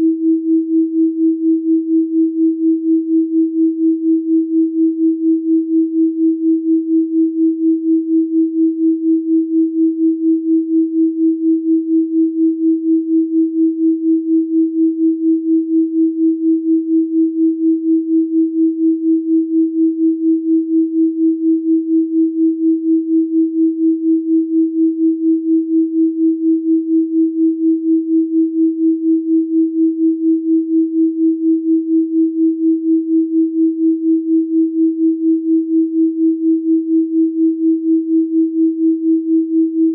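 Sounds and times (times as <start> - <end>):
pulsing sine tone: 0.0 - 39.9.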